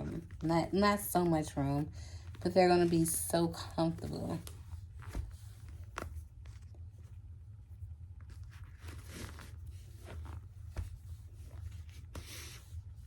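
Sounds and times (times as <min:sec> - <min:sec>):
faint rustling: 0:00.0 - 0:13.0
low steady hum: 0:00.0 - 0:13.0.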